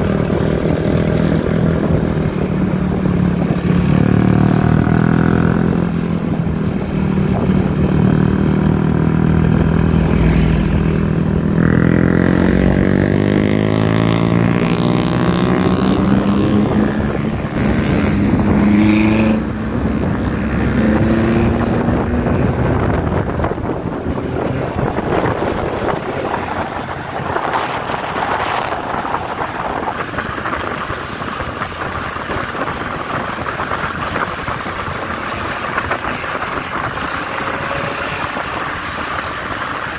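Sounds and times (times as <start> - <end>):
rushing road noise: 0.0 - 39.9.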